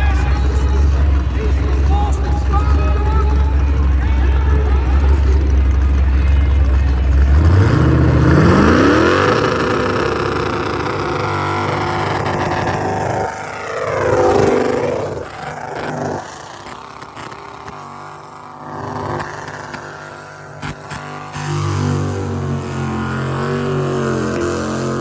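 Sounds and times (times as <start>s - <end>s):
engine revving during burnout: 0.0s - 25.0s.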